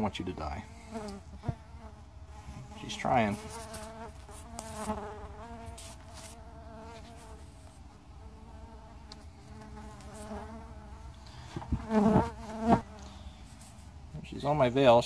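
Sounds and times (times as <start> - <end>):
bumblebee buzzing: 0.6 - 13.2.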